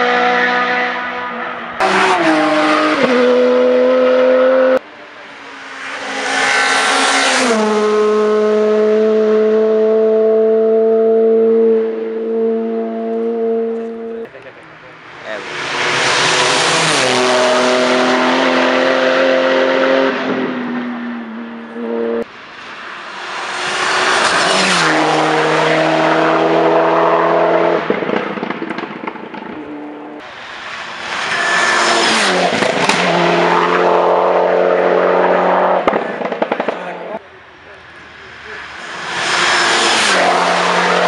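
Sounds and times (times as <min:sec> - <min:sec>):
race cars passing at full throttle: 0:00.0 - 0:41.0.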